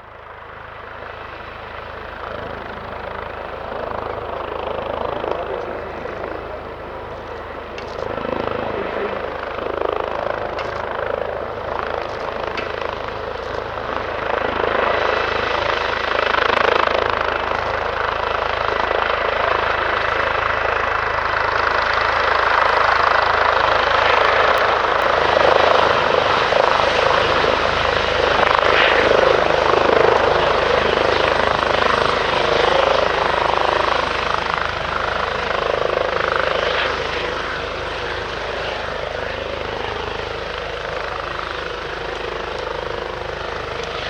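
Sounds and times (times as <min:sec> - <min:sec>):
helicopter turbines and rotors: 0:00.0 - 0:44.0.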